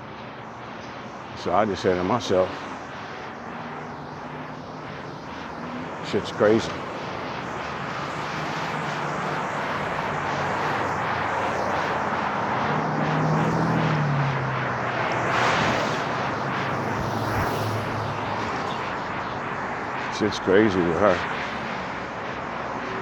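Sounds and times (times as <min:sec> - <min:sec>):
aircraft passing overhead: 0:00.0 - 0:23.0.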